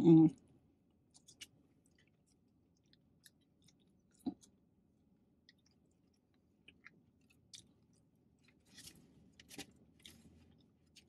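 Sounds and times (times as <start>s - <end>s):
chewing and mouth sounds: 1.1s - 4.6s, 5.4s - 11.0s.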